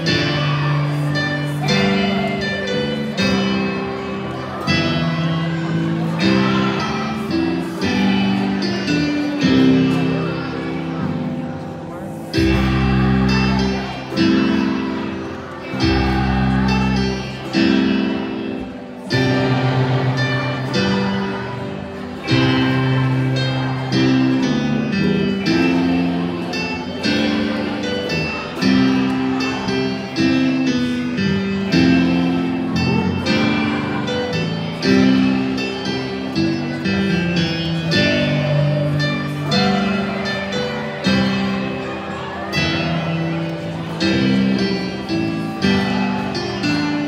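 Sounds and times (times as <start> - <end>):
children's choir singing: 0.0 - 47.0
strummed acoustic guitar: 0.0 - 47.0.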